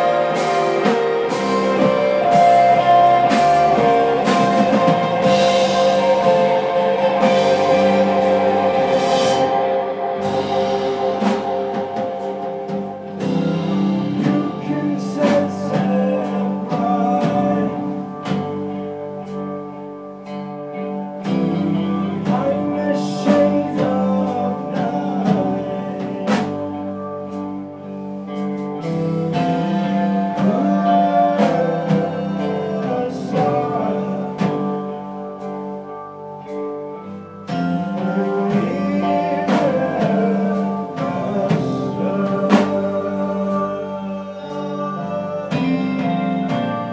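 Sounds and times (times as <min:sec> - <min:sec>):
man singing: 0:00.0 - 0:12.0, 0:13.2 - 0:18.9, 0:21.2 - 0:27.1, 0:29.3 - 0:35.4, 0:37.5 - 0:46.9
drum kit: 0:00.0 - 0:46.9
electric guitars and bass: 0:00.0 - 0:46.9.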